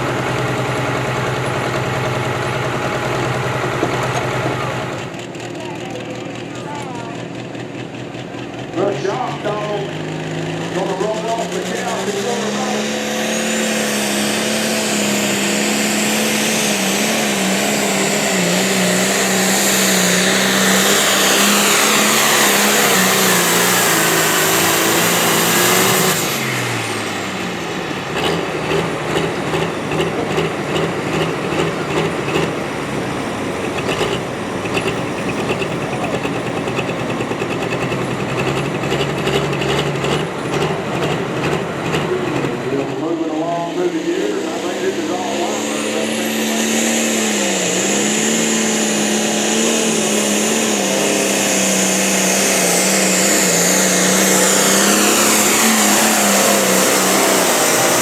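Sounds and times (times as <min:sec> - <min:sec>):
pulling vehicle engine: 0:00.0 - 0:58.0.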